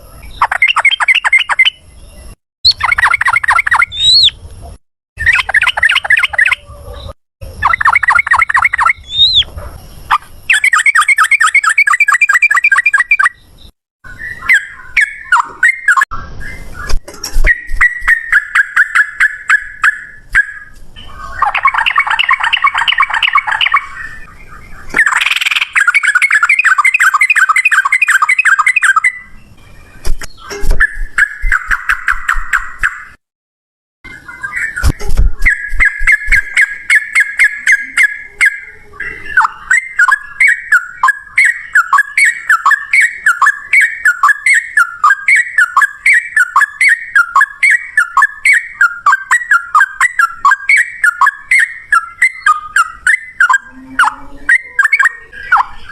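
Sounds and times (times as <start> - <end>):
bird singing rattling trills: 0.0 - 4.4, 5.2 - 33.2, 34.1 - 55.9.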